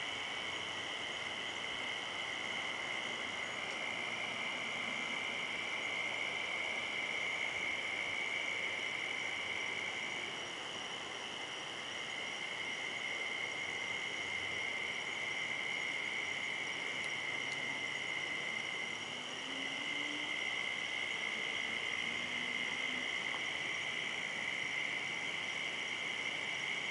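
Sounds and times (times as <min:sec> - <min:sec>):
night insects trilling: 0:00.0 - 0:26.9.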